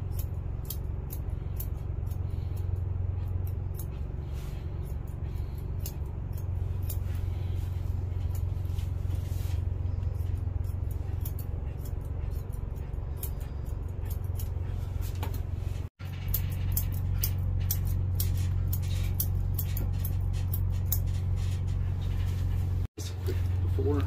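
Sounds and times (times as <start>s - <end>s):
electric clippers humming: 0.0s - 21.8s.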